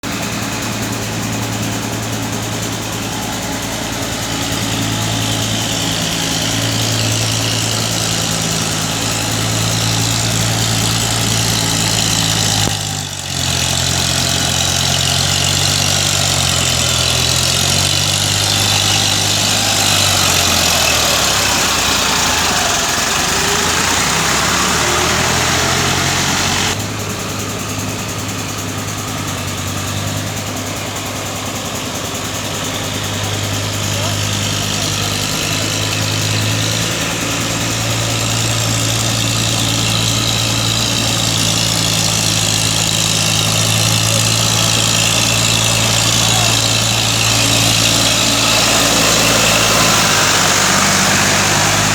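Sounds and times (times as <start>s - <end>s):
hiss: 0.0s - 51.9s
tractor diesel engine running: 0.0s - 51.9s.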